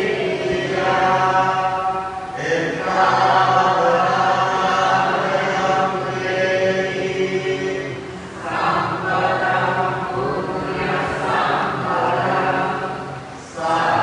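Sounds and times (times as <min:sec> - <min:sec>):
chanting on long held tones: 0:00.0 - 0:14.0.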